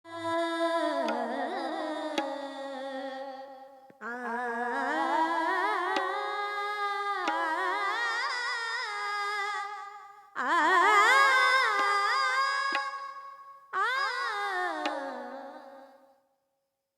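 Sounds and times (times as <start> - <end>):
woman singing wordless phrases: 0.1 - 16.1.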